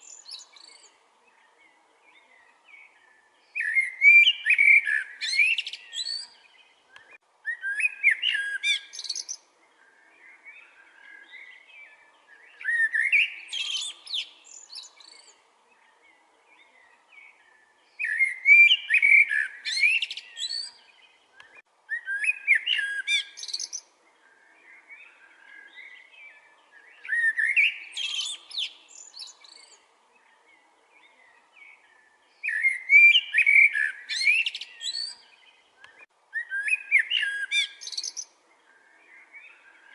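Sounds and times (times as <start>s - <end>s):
soft bird chirps: 0.0s - 39.9s
songbird singing: 0.0s - 39.9s.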